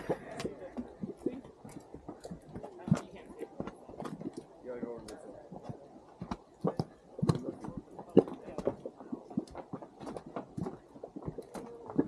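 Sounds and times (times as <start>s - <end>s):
hot mud bubbling and plopping: 0.0s - 12.0s.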